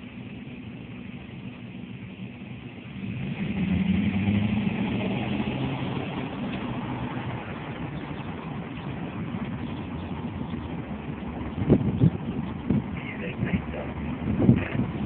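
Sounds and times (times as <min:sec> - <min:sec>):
car engine: 0:00.0 - 0:15.0
road noise: 0:00.0 - 0:15.0.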